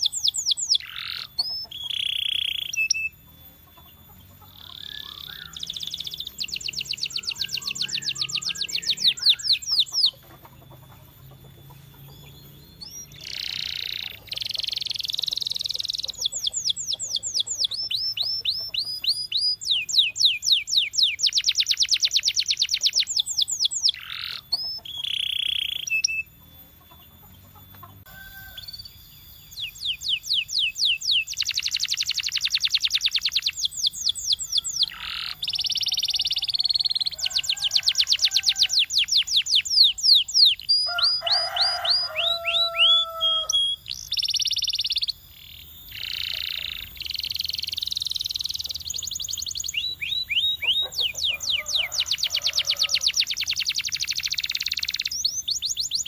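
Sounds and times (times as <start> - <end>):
canary singing with trills: 0.0 - 56.0.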